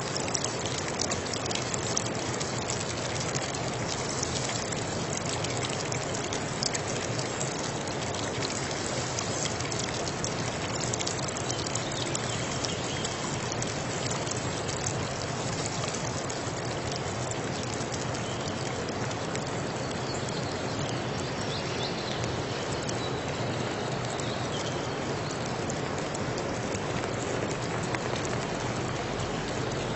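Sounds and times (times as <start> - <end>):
small drops ticking: 0.0 - 29.9
water trickling and splashing: 0.0 - 29.9.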